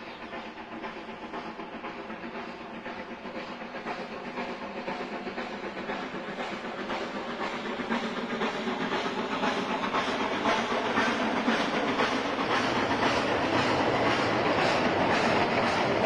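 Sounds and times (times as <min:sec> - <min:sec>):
steam train rumbling over bridge: 0:00.0 - 0:16.0.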